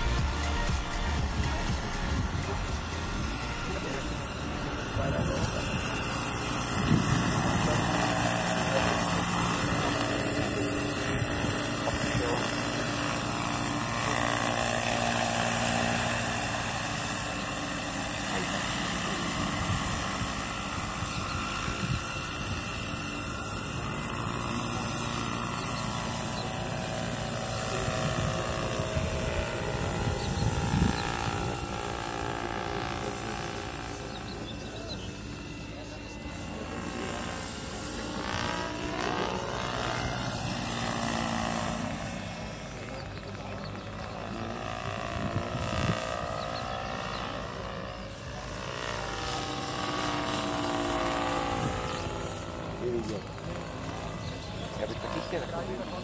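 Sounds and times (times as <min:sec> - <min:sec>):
low rotor buzz: 0:00.0 - 0:56.0
model helicopter high whine: 0:00.0 - 0:56.0.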